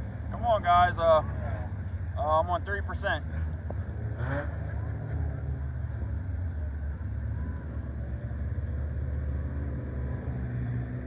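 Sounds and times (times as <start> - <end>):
race car engines rumbling: 0.0 - 11.0.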